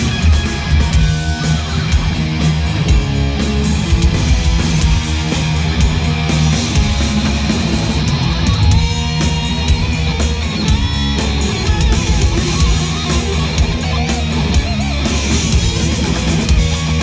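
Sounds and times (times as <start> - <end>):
bass guitar: 0.0 - 17.0
distorted electric guitar: 0.0 - 17.0
driving drum kit: 0.0 - 17.0.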